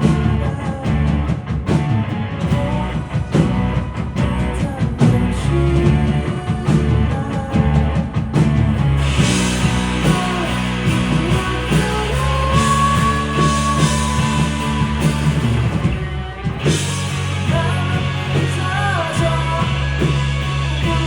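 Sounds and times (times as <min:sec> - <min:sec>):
electric guitar: 0:00.0 - 0:21.0
rock band playing: 0:00.0 - 0:21.0.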